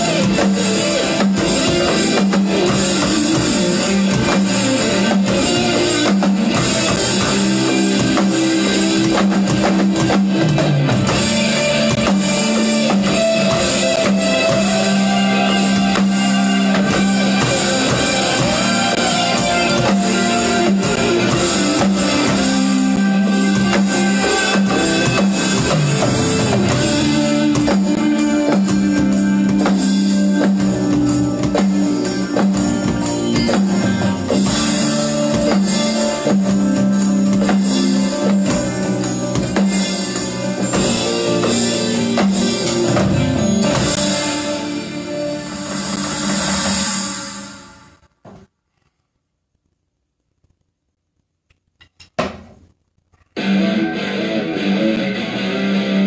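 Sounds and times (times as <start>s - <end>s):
alternative rock song: 0.0s - 48.0s, 53.4s - 56.0s
electronic drum kit playing: 0.0s - 48.2s, 53.4s - 56.0s.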